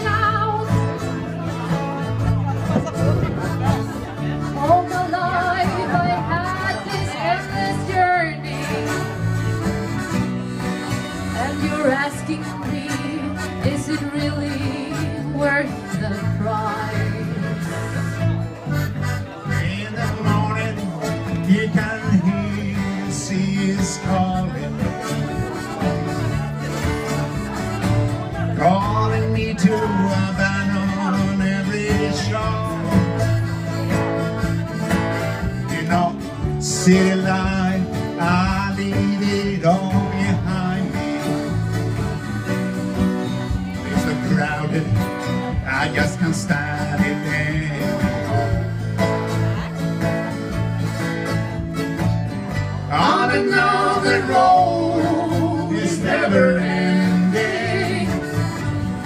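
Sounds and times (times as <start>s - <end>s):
accordion: 0.0s - 59.0s
bass line: 0.0s - 59.0s
electric guitar: 0.0s - 59.0s
strummed acoustic guitars: 0.0s - 59.0s.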